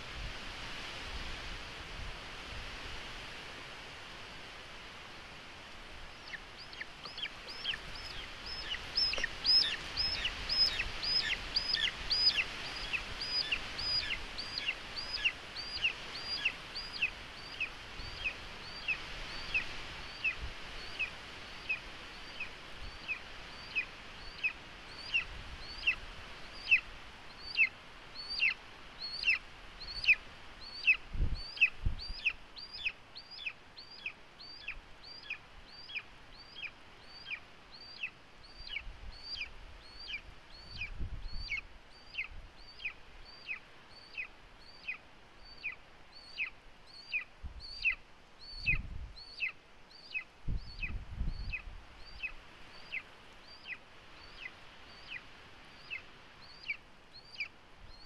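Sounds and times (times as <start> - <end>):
eagle chick begging calls: 6.1 - 58.0.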